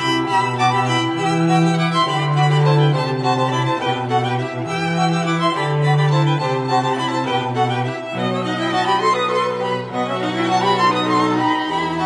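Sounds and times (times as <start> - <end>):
bowed strings playing slow notes: 0.0 - 12.0.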